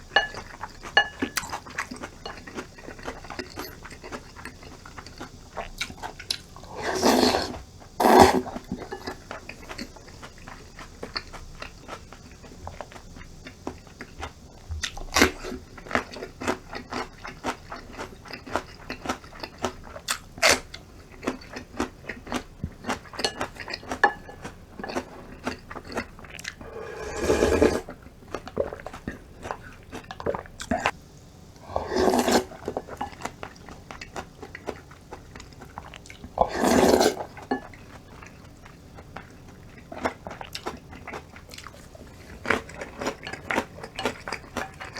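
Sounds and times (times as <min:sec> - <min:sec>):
person crunching and chewing: 0:00.0 - 0:31.0, 0:31.8 - 0:44.9.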